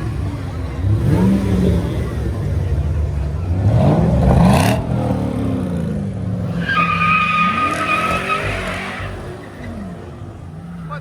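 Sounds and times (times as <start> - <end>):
car engine revving: 0.0 - 11.0
tyres screeching: 0.0 - 11.0.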